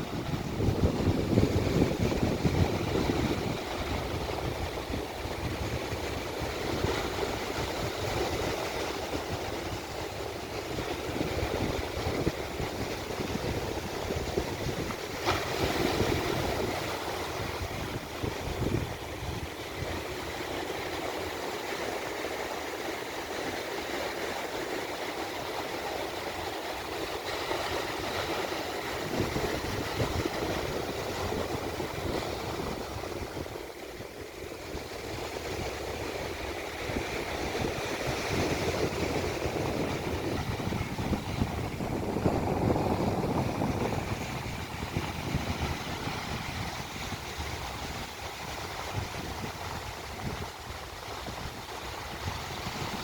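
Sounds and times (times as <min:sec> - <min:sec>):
surf washing onto a beach: 0:00.0 - 0:53.0
wind buffeting the microphone: 0:00.0 - 0:53.0.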